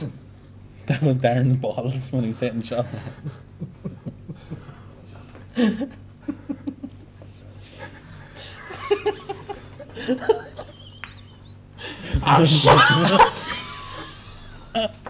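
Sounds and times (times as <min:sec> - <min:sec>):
men laughing: 0:02.9 - 0:15.0.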